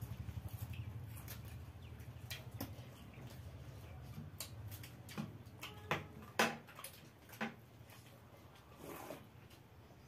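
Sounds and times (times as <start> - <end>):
chewing: 0.0 - 9.2.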